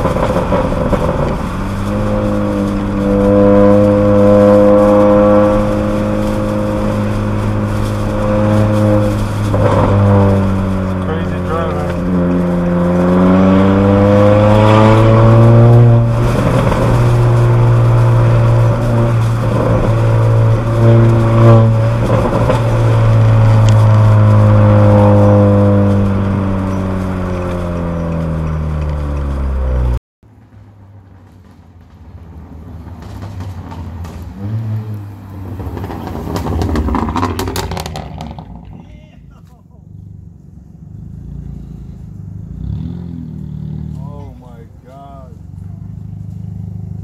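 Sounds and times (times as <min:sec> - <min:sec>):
car exhaust droning: 0:00.0 - 0:47.0
road rumble: 0:00.0 - 0:47.0.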